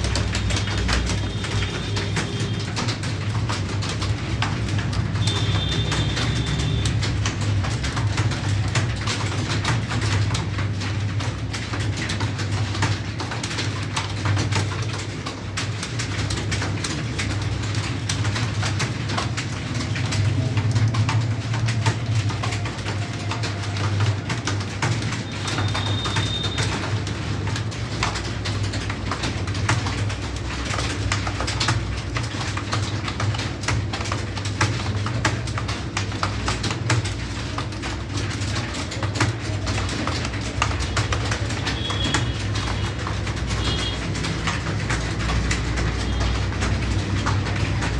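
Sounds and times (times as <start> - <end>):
computer keyboards clattering: 0.0 - 47.9.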